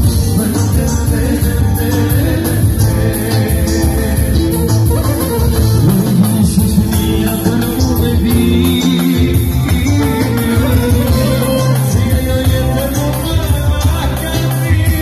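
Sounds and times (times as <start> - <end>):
drum machine beat: 0.0 - 15.0
electronic keyboard: 0.0 - 15.0
man singing through microphone: 0.0 - 15.0.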